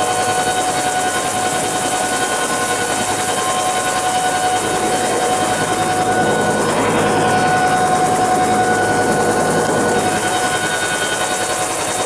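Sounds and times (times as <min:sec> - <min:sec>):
helicopter engine and rotor: 0:00.0 - 0:12.0
high turbine whine: 0:00.0 - 0:12.0.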